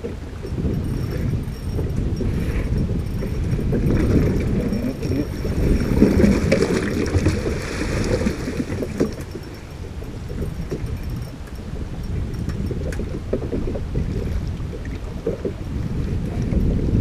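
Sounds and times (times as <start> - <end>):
water lapping against boat hull: 0.0 - 17.0
wind rumbling on microphone: 0.0 - 17.0.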